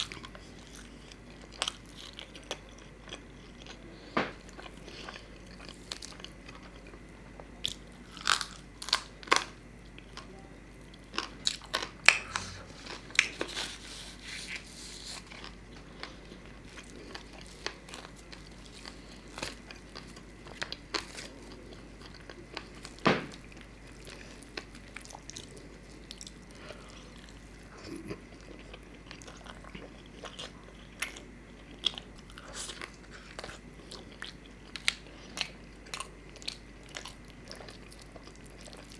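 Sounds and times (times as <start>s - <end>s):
man chewing food: 0.0s - 38.9s.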